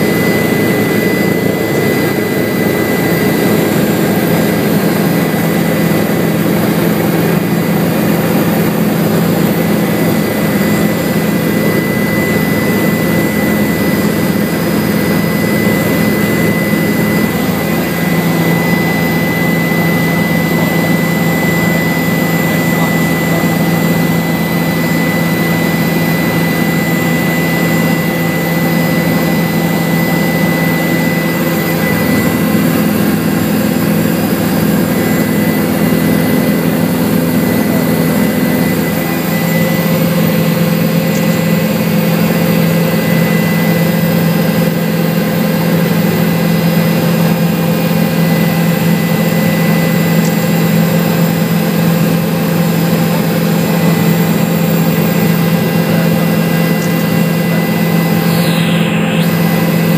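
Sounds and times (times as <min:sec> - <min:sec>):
helicopter engine and rotor drone: 0:00.0 - 0:59.9
high whine: 0:00.0 - 0:59.9.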